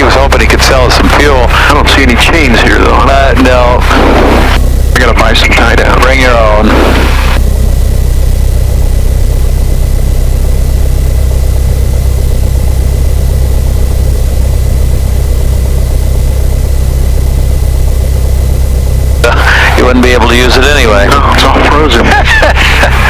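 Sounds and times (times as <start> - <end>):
aircraft engine idling: 0.0 - 23.0.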